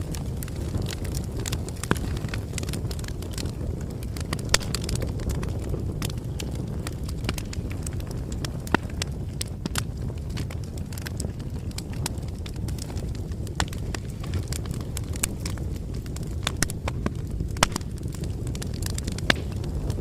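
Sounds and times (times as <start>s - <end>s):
burning wood crackling and popping: 0.0s - 20.0s
rumble of flames: 0.0s - 20.0s.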